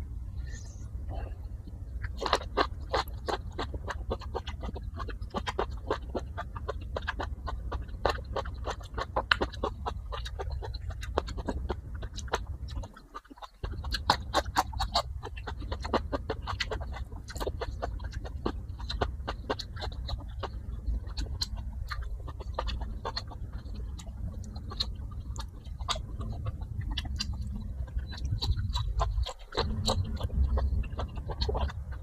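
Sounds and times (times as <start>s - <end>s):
steady low hum: 0.0s - 32.0s
crunchy chewing: 0.3s - 32.0s
wet mouth smacks and clicks: 2.0s - 32.0s.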